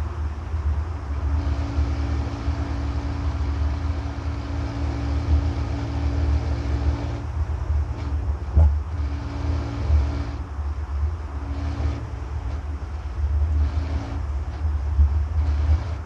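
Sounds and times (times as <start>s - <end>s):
steady hum: 0.0s - 16.0s
truck drivetrain low rumble: 0.0s - 16.0s.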